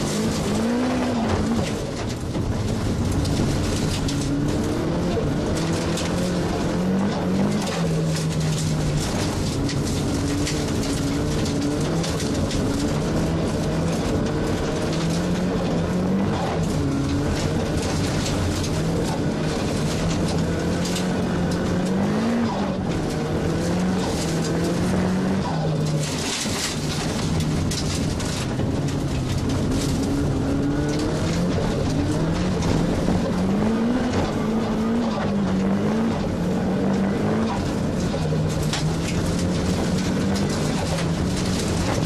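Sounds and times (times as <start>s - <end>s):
race car engine revving: 0.0s - 42.0s
road noise rush: 0.0s - 42.0s.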